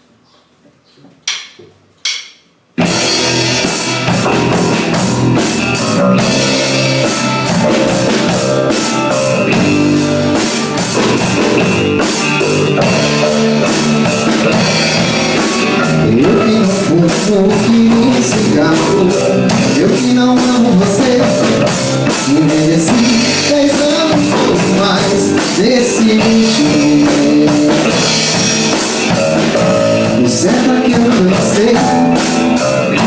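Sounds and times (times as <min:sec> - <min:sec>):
rock band playing: 0:02.8 - 0:33.0.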